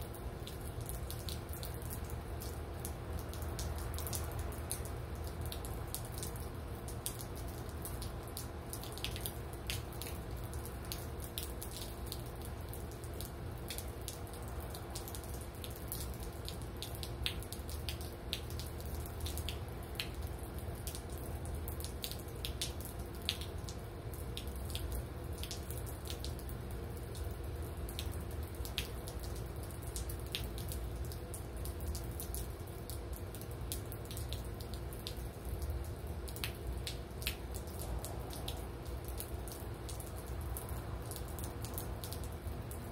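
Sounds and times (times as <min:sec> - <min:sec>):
rain dripping and tapping: 0:00.0 - 0:42.9.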